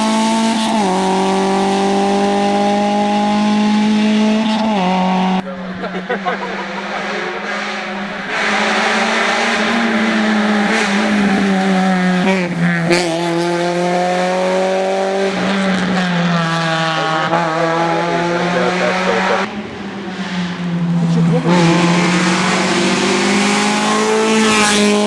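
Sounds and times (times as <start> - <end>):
rally car engine pulling hard: 0.0 - 25.0.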